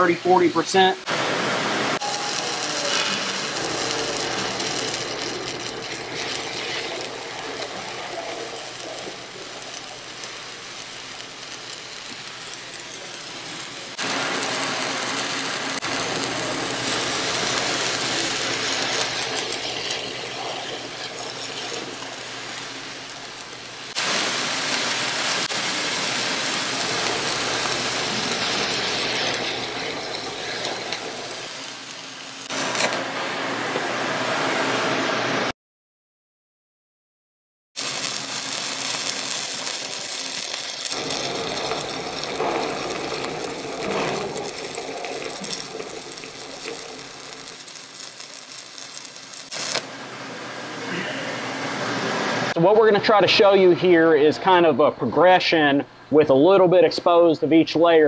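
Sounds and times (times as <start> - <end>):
welding arc crackling: 0.0 - 34.8, 37.8 - 50.4.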